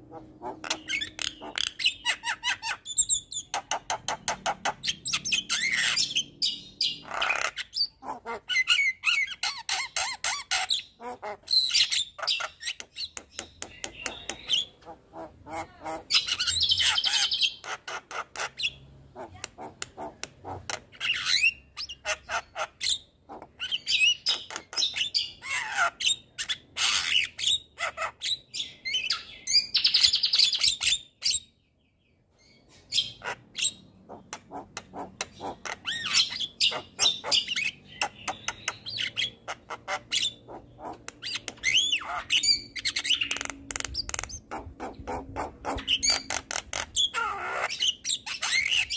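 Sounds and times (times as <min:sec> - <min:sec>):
myna bird singing: 0:00.0 - 0:48.9.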